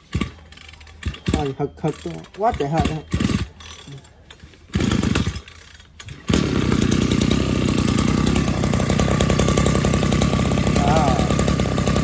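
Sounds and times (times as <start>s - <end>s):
brush cutter engine running: 0.0s - 12.0s.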